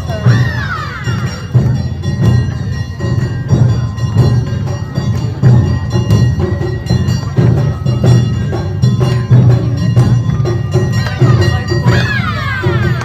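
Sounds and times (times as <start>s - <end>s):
clanging metal bell: 0.0s - 13.0s
taiko drums beating: 0.0s - 13.0s.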